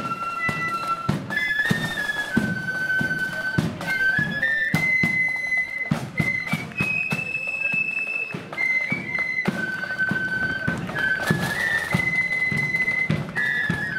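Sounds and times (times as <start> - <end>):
drum beats: 0.0 - 13.9
flutes playing in unison: 0.0 - 13.9.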